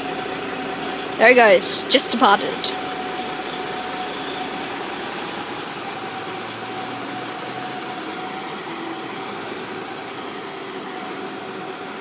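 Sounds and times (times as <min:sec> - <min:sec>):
coach engine running: 0:00.0 - 0:12.0.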